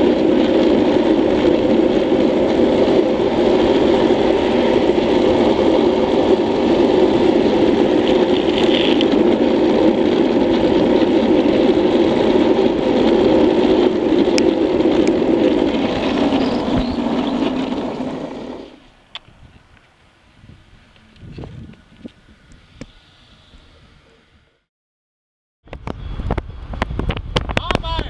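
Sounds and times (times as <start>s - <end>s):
wind over helmet: 0.0s - 24.4s, 25.7s - 28.0s
wheels rolling fast on asphalt: 0.0s - 24.5s, 25.7s - 28.0s.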